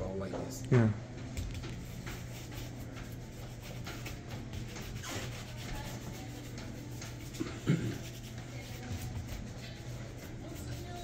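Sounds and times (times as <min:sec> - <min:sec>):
shoe leather rubbing: 0:01.6 - 0:11.0.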